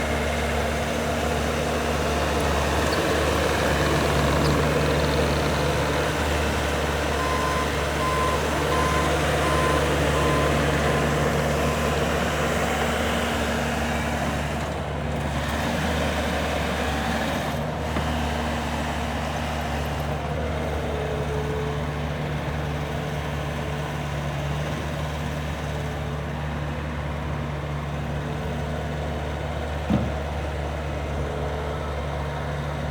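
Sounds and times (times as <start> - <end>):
skid steer diesel engine running: 0.0 - 32.9.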